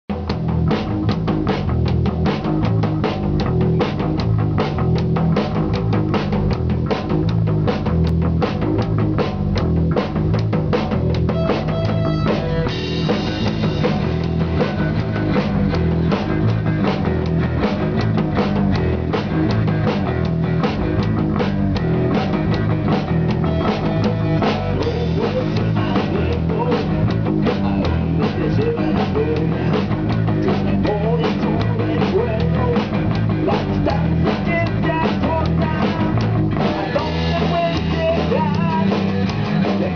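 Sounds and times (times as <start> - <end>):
drum kit steady beat: 0.1 - 39.9
rock band playing live: 0.1 - 39.9.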